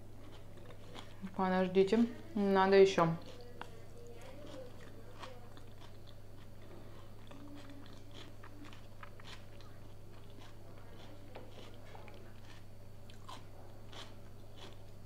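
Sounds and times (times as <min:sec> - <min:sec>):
person chewing: 0:00.0 - 0:01.4, 0:03.2 - 0:15.0
steady low hum: 0:00.0 - 0:15.0.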